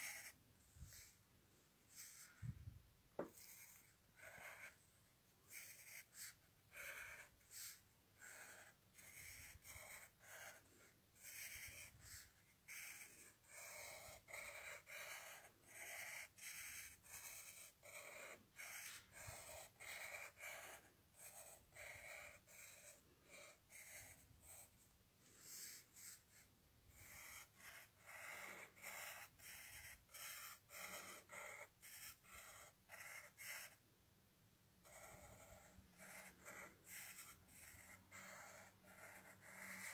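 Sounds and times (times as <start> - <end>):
pen scratching on paper: 0.0 - 1.2, 1.9 - 2.5, 3.2 - 4.8, 5.4 - 24.8, 25.4 - 33.8, 34.8 - 39.9.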